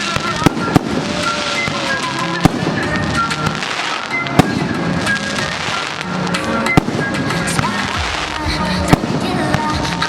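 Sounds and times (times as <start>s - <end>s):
fireworks crackling: 0.0s - 10.0s
music: 0.0s - 10.0s
sharp loud firework bangs: 0.0s - 10.0s.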